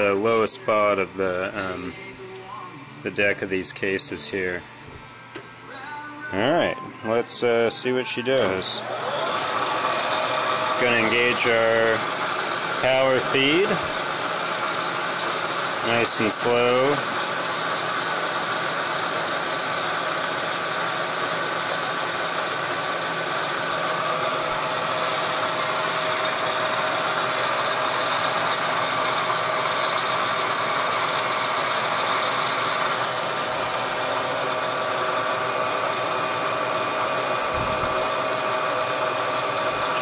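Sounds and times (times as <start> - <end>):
milling machine hum: 0.0 - 40.0.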